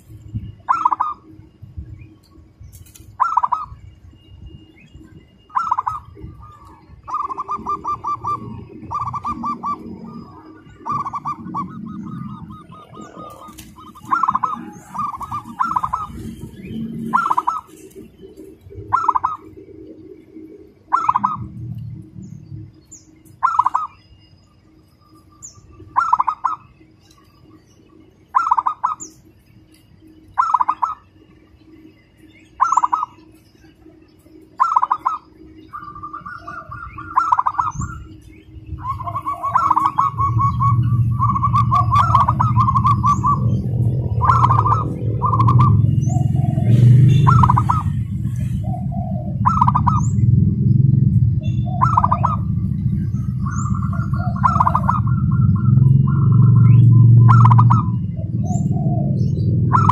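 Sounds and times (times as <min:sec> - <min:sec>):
dove cooing and trilling: 0:00.0 - 0:24.0, 0:25.3 - 0:26.9, 0:28.3 - 0:29.3, 0:30.1 - 0:59.9
low rumble: 0:00.0 - 0:28.3, 0:29.0 - 0:59.9
high bird chirps: 0:00.0 - 0:59.9.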